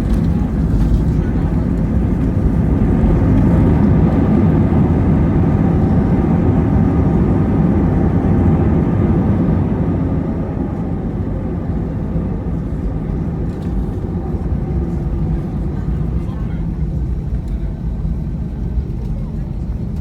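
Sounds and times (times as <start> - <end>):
jet engine rumble: 0.0 - 20.0.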